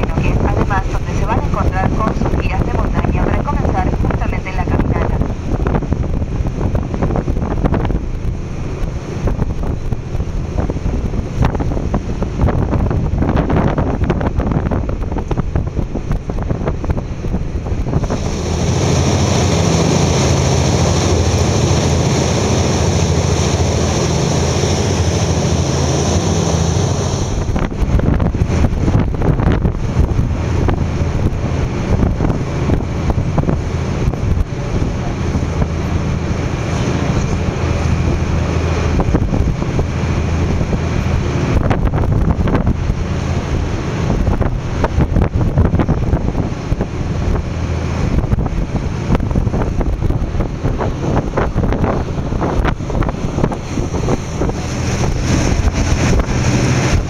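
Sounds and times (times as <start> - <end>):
boat engine rumble: 0.0 - 57.0
water rushing past hull: 0.0 - 57.0
wind buffeting microphone: 0.0 - 57.0.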